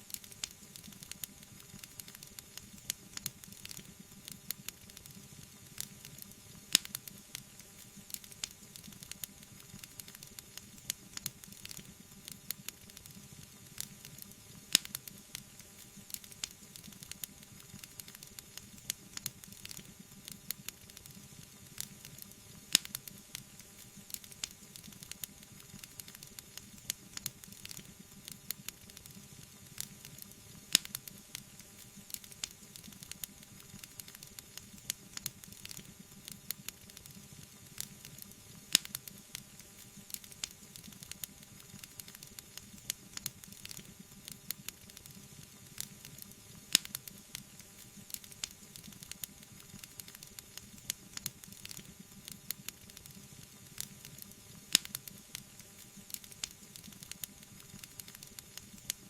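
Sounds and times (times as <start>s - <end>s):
soft fire hiss: 0.0s - 59.0s
wood fire crackling and popping: 0.0s - 59.0s.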